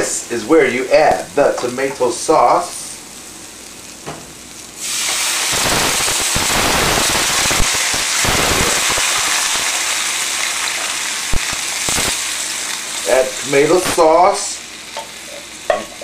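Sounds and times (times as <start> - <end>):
sauce sizzling in a skillet: 0.0 - 16.0.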